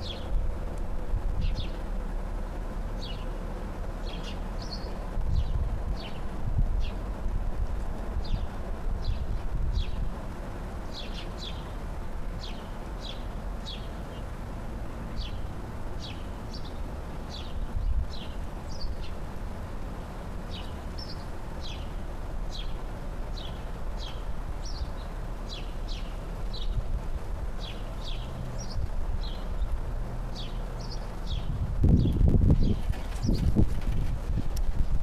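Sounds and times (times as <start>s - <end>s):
small birds chirping: 0.0s - 0.4s, 1.4s - 1.9s, 2.9s - 7.1s, 8.2s - 10.1s, 10.8s - 14.4s, 15.0s - 19.3s, 20.4s - 34.2s
low outdoor rumble: 0.0s - 35.0s.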